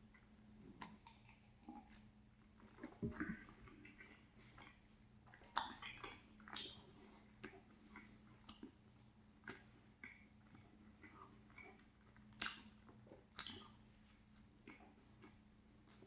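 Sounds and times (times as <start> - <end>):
chewing pastry mouth clicks: 0.1 - 13.8.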